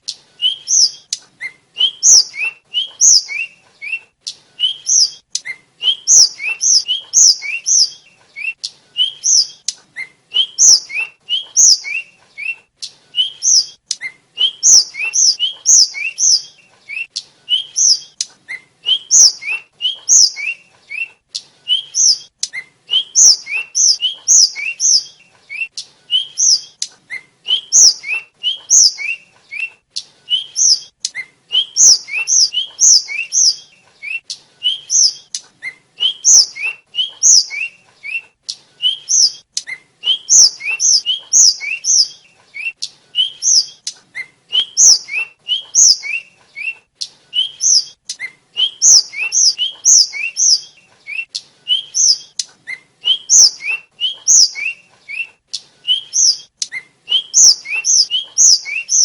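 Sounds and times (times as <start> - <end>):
flycatcher whistled song: 0.0 - 59.0.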